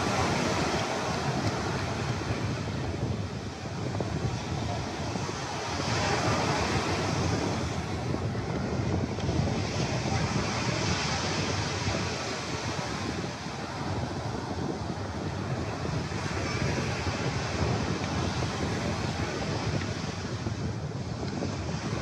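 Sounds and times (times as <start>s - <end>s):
small waves breaking on beach: 0.0s - 22.0s
wind buffeting microphone: 0.0s - 22.0s.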